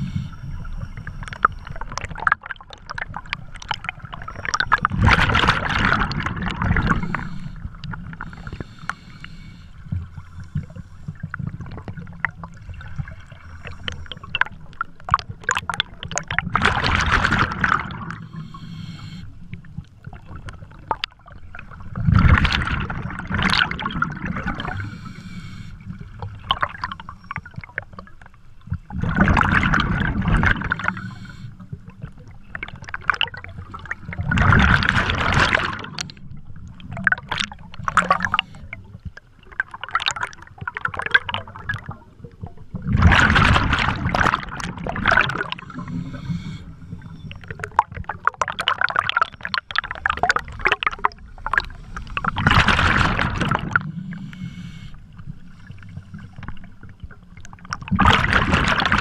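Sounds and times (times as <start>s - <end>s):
underwater bubbles bursting out: 0.0s - 8.3s, 14.0s - 18.3s, 19.6s - 25.0s, 25.9s - 31.1s, 31.7s - 54.3s, 55.7s - 59.0s.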